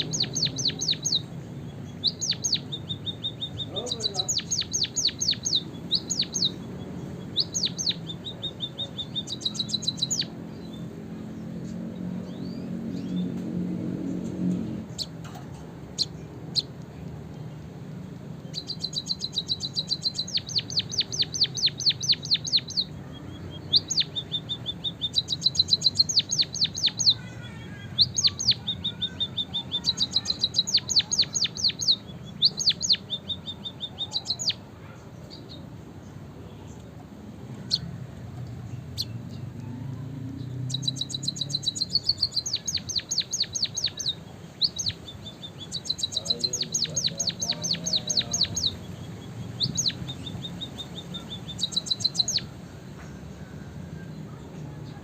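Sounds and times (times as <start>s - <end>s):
bird singing high fast trills: 0.0s - 14.2s, 18.3s - 36.8s, 37.5s - 38.0s, 40.4s - 52.8s.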